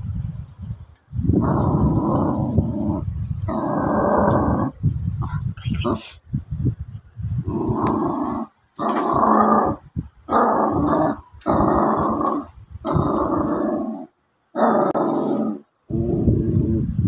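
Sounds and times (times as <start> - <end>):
puppy growling: 1.3 - 6.0, 7.4 - 16.9.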